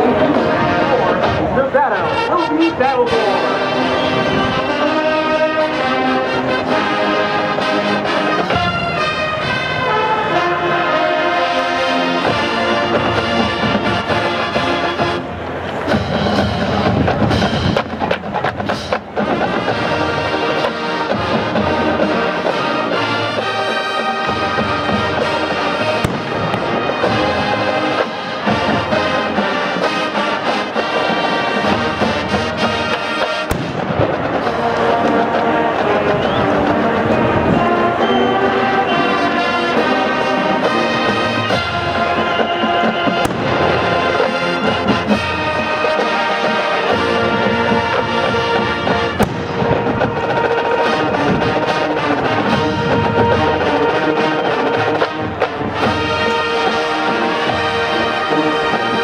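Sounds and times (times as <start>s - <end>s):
brass instruments: 0.0s - 59.0s
drumline: 0.0s - 59.0s.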